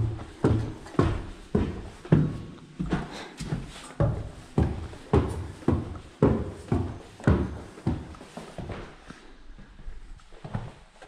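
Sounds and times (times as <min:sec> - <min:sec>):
footsteps on wooden stairs: 0:00.0 - 0:11.0.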